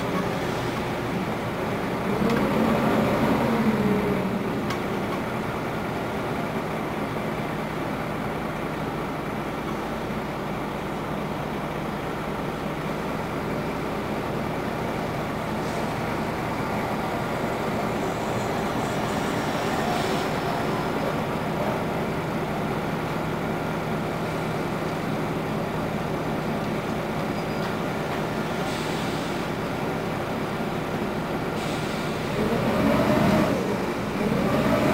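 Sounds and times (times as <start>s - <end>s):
bus engine drone: 0.0s - 34.9s
road and tyre noise: 0.0s - 34.9s.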